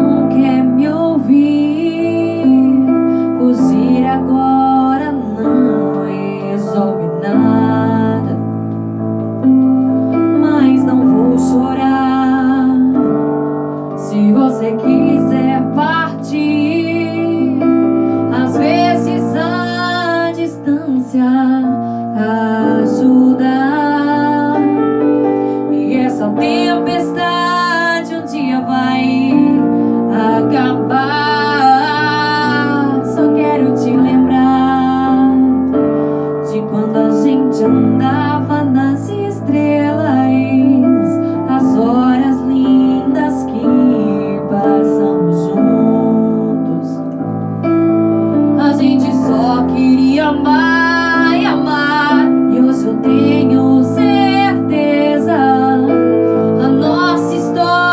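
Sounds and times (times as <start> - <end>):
woman singing with vibrato: 0.0 - 8.5, 10.1 - 13.4, 14.0 - 35.8, 36.4 - 47.1, 48.6 - 57.9
piano ballad: 0.0 - 57.9.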